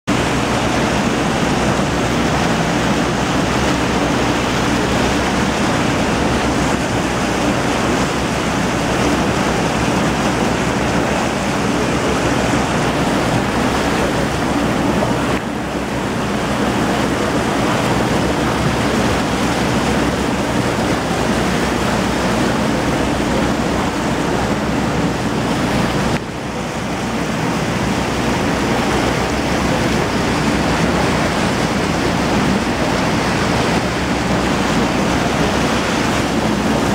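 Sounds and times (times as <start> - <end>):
boat engine droning: 0.0 - 36.9
rush of water: 0.0 - 36.9
wind: 0.0 - 36.9.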